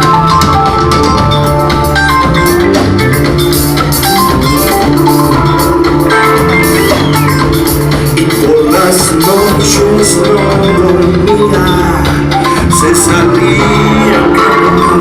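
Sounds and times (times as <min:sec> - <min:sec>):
bass: 0:00.0 - 0:15.0
drum kit beat: 0:00.0 - 0:15.0
electric guitar: 0:00.0 - 0:15.0.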